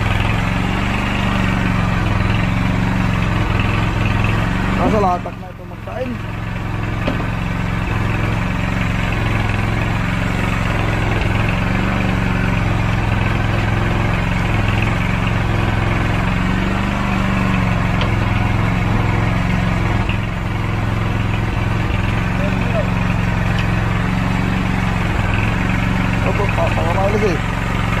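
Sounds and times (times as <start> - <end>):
boat engine humming: 0.0 - 28.0.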